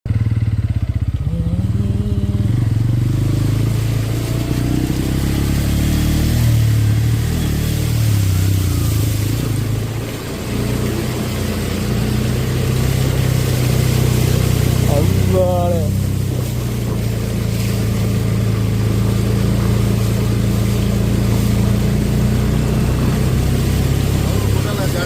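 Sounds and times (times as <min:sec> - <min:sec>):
motorcycle engine revving: 0:00.1 - 0:25.0.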